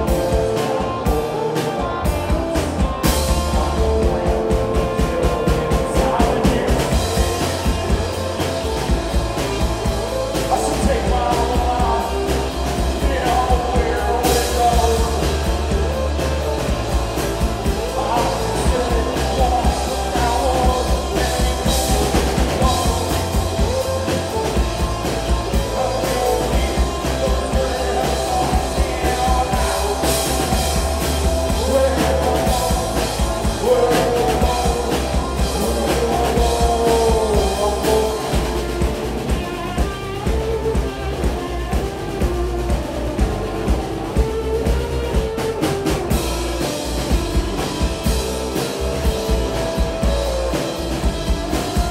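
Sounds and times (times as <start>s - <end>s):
drum kit: 0.0s - 51.9s
electric bass guitar: 0.0s - 51.9s
electric guitars: 0.0s - 51.9s.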